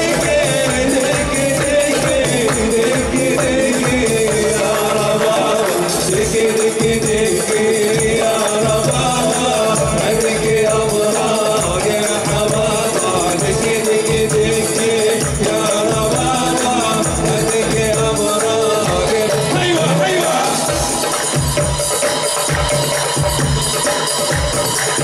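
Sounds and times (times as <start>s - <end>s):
frame drums and hand drums: 0.0s - 25.0s
stringed instrument: 0.0s - 25.0s.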